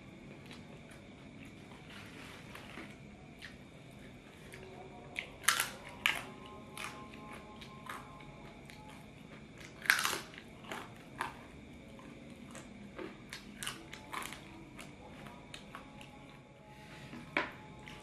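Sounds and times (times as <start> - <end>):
crunchy bites and chewing: 0.3 - 16.4.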